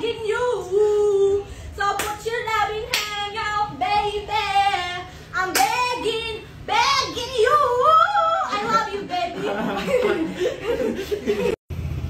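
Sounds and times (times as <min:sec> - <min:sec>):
woman singing unaccompanied: 0:00.0 - 0:09.7.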